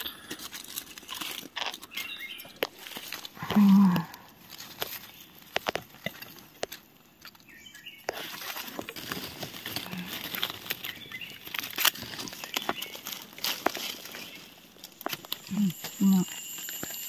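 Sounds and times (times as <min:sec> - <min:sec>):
dry leaves rustling and snapping: 0:00.0 - 0:17.0.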